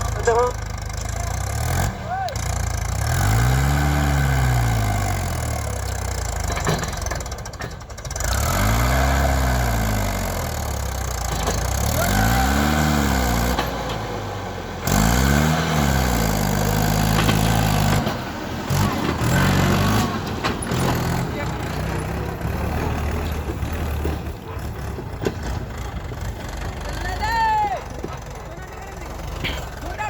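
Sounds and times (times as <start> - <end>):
tractor diesel engine revving: 0.0 - 30.0.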